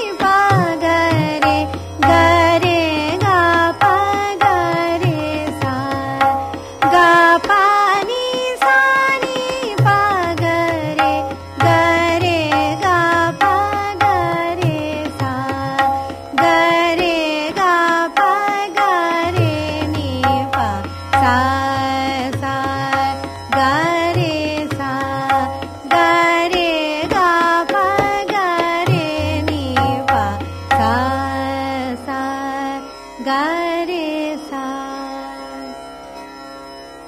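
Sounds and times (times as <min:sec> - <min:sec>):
tabla playing: 0:00.0 - 0:32.6.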